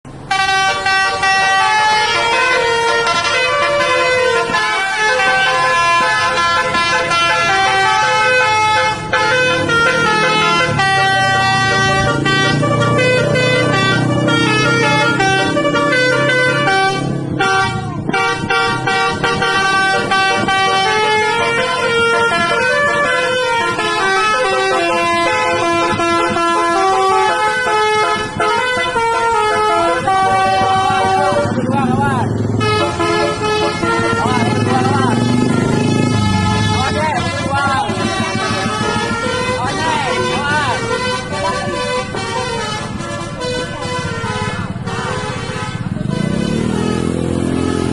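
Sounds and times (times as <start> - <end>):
bus musical horn playing tune: 0.1 - 47.9.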